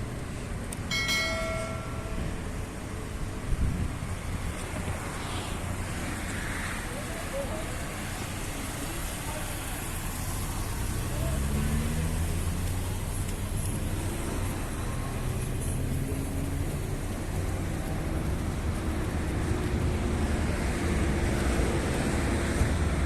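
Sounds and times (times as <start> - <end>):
vehicle engines passing: 0.0 - 23.0.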